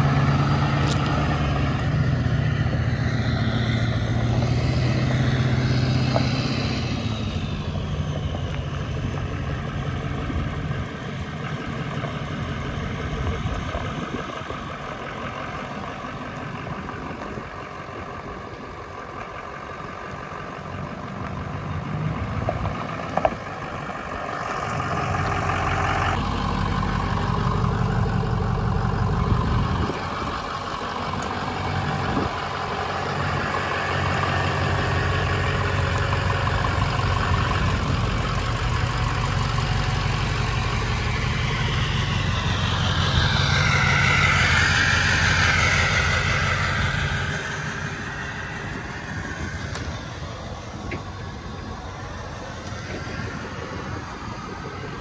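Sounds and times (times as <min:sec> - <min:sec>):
truck engine running and idling: 0:00.0 - 0:55.0.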